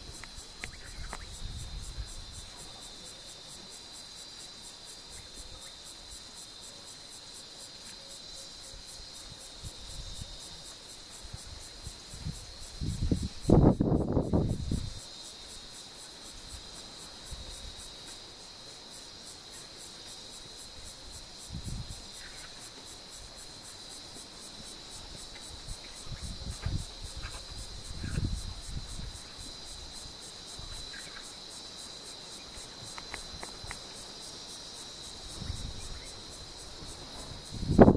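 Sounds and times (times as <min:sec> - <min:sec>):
insects chirring: 0:00.0 - 0:37.9.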